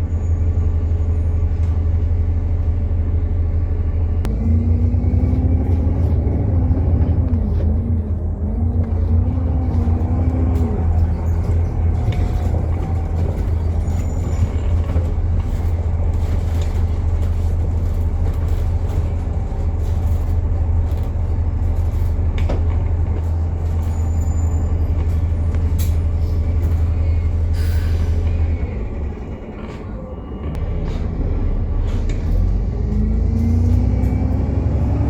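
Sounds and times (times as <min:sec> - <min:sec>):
bus axle low drone: 0:00.0 - 0:35.0
rattles and clicks: 0:05.2 - 0:34.4.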